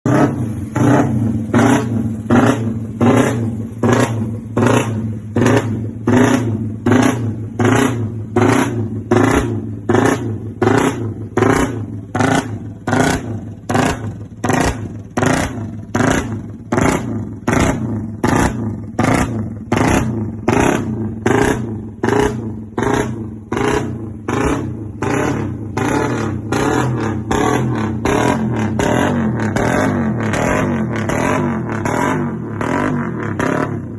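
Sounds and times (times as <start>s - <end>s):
engine revving over idle: 0.0s - 33.9s.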